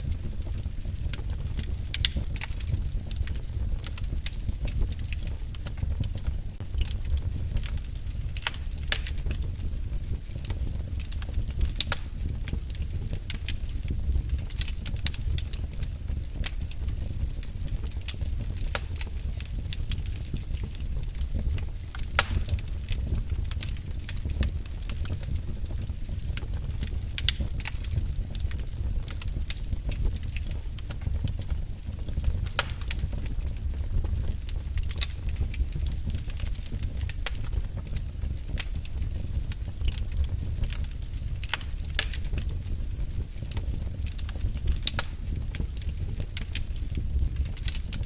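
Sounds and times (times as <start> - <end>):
fire crackling and popping: 0.0 - 48.0
fire rumbling in fireplace: 0.0 - 48.0.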